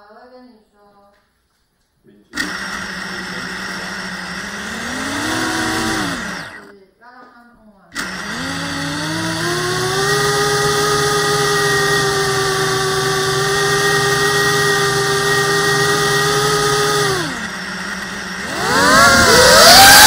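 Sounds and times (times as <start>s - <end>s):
drone motors whining: 2.4s - 6.7s, 8.0s - 20.0s.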